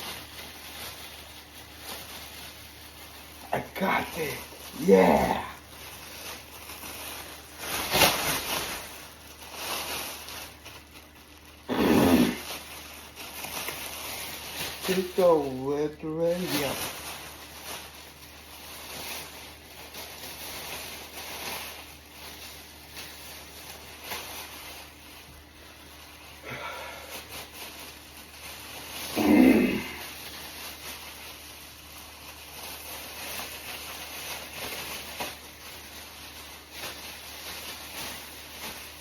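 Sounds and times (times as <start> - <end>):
plastic rain gear rustling: 0.0 - 39.0.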